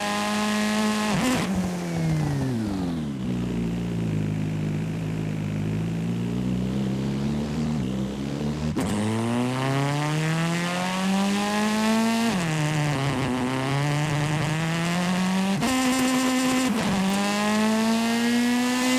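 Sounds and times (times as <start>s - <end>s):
engine running and revving: 0.0s - 18.9s.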